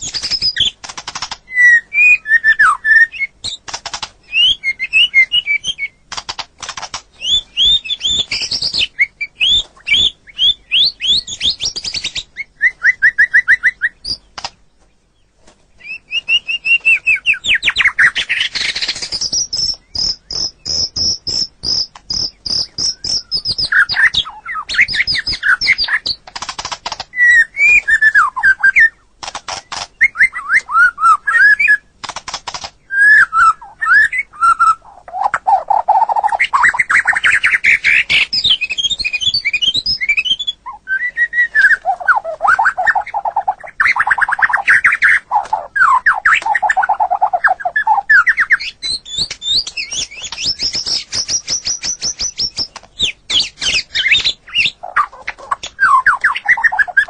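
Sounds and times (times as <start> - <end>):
bird singing whistles and trills: 0.0 - 0.8, 1.4 - 6.2, 7.1 - 14.4, 15.8 - 26.2, 27.1 - 31.9, 32.8 - 57.0.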